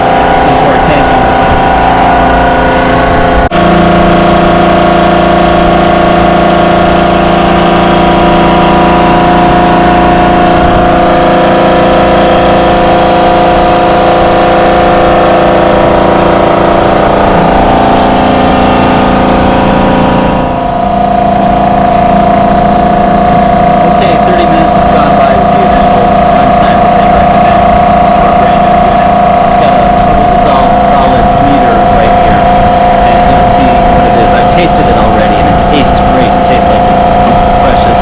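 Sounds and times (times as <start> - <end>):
motor and pump humming: 0.0 - 38.0.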